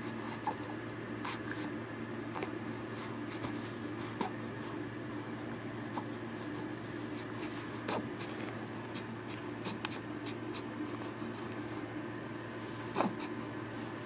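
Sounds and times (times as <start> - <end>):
low room hum: 0.0 - 14.0
faint rustles: 2.4 - 14.0.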